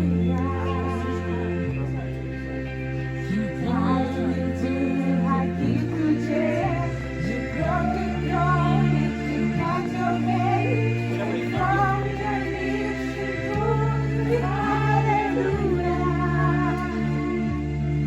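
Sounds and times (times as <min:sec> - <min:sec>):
slow song with sung vocals: 0:00.0 - 0:18.0
sustained bass notes: 0:00.0 - 0:18.0.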